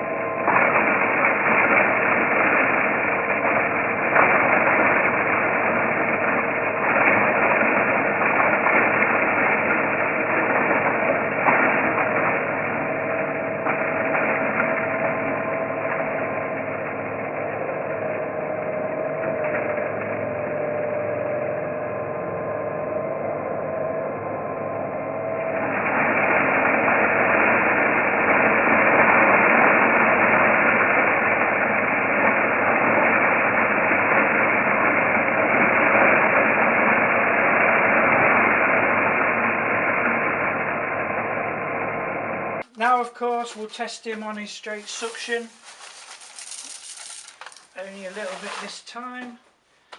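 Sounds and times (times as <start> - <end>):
vacuum cleaner running: 0.0 - 42.6, 43.3 - 49.2.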